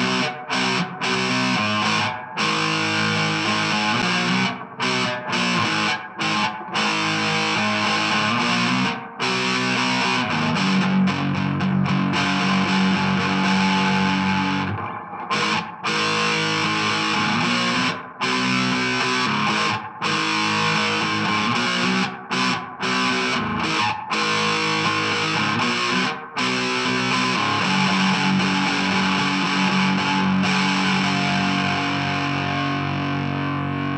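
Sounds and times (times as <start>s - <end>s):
distorted electric guitar chords: 0.0s - 33.9s.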